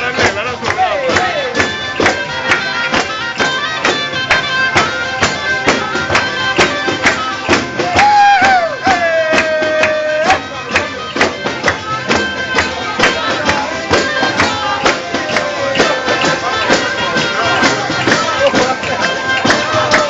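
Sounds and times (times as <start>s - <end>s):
tambourine beating rhythm: 0.0s - 20.0s.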